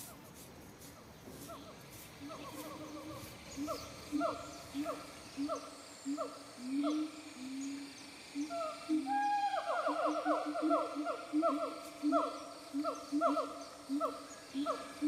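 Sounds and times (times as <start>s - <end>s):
hooting animal calls: 1.4s - 15.0s.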